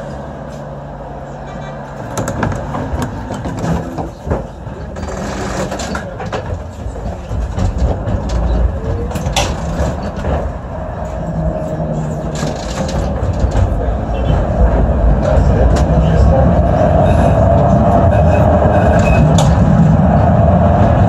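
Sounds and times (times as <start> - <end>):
tram low rumble: 0.0 - 21.0
wheels knocking and rattling on rails: 0.0 - 21.0.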